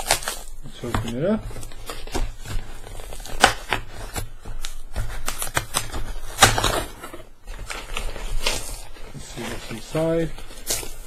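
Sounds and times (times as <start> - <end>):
packaging crackling and rustling: 0.0 - 11.0.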